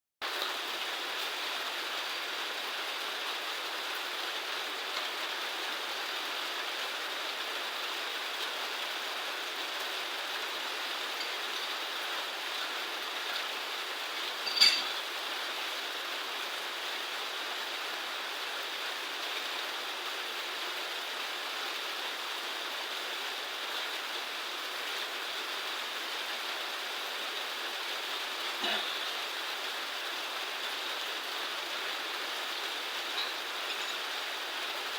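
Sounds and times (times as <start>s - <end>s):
running water: 0.2s - 34.9s.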